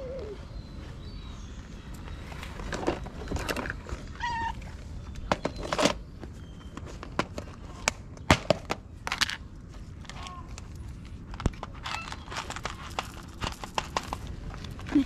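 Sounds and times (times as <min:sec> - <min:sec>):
clicks and rustling handling: 0:02.0 - 0:15.0.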